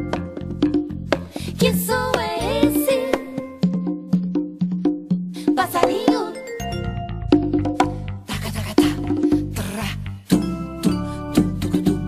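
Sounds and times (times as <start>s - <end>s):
conga drums played by hand: 0.0s - 12.0s.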